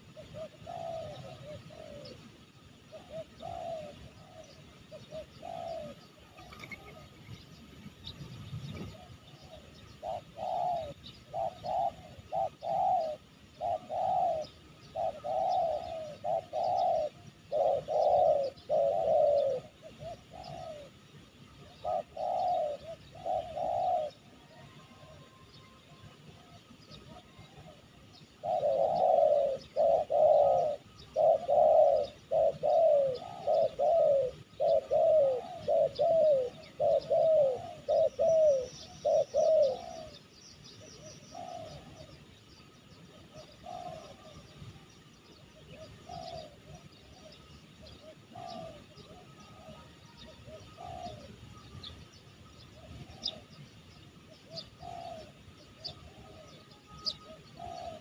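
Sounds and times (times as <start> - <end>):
dove cooing: 0.0 - 58.0
small birds chirping: 0.0 - 58.0.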